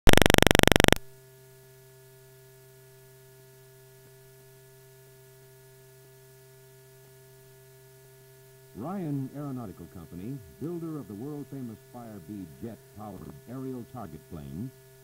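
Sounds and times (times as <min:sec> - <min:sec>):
film soundtrack hum and hiss: 0:00.1 - 0:15.0.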